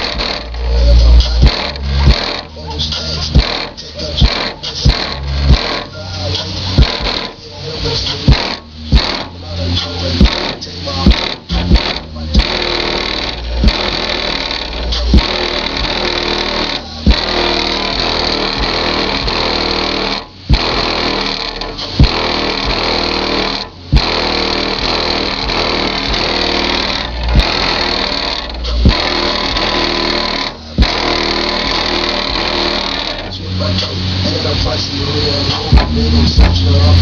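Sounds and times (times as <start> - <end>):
bass-heavy rap beat: 0.0 - 37.0.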